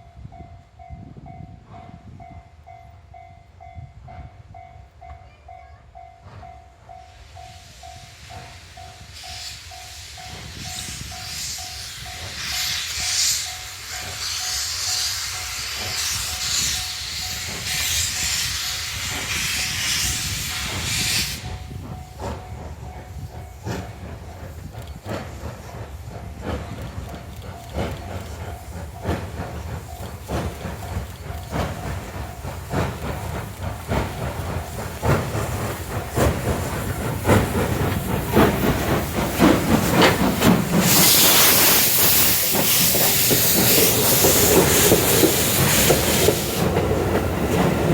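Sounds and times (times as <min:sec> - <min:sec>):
steam hissing: 0:06.9 - 0:47.9.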